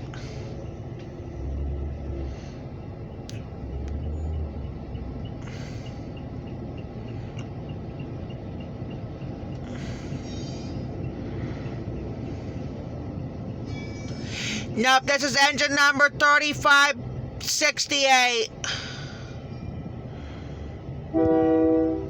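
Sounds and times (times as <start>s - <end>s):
diesel locomotive rumble: 0.0s - 22.0s.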